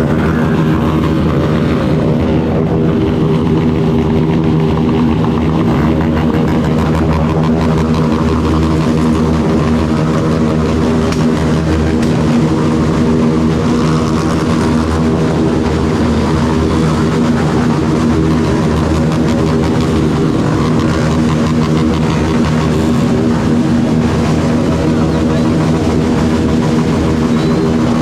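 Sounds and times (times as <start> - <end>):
motorcycle engine running steadily: 0.0 - 28.0.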